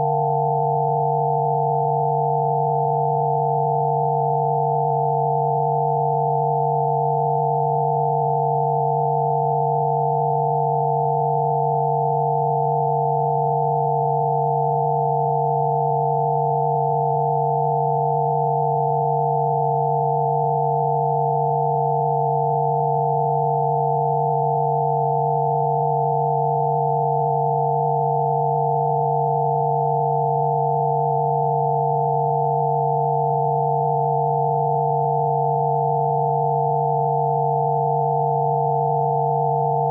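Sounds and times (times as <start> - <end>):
electronic sine tones: 0.0 - 39.9.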